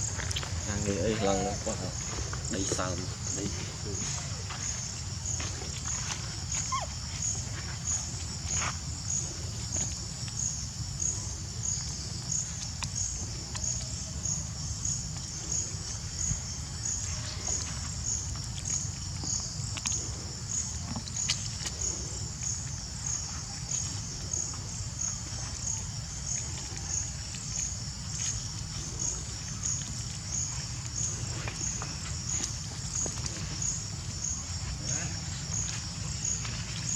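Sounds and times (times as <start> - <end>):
insects chirping: 0.0 - 36.9.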